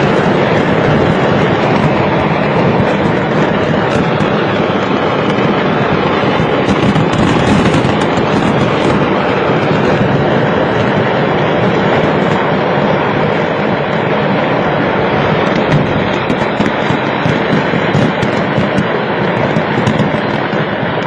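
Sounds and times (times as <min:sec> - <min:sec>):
fireworks crackling bangs: 0:00.0 - 0:21.0.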